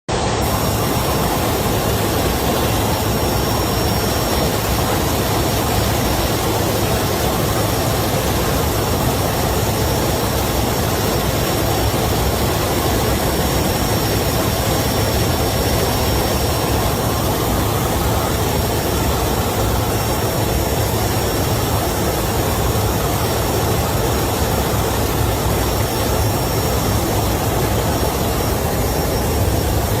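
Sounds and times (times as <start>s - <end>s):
helicopter rotor and turbine noise: 0.1s - 30.0s
high thin whine: 0.1s - 30.0s.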